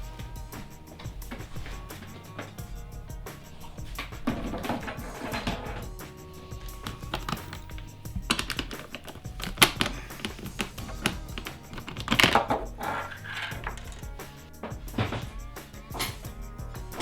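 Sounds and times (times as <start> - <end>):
background music: 0.0 - 17.0
clicks and taps on washing machine: 0.0 - 17.0.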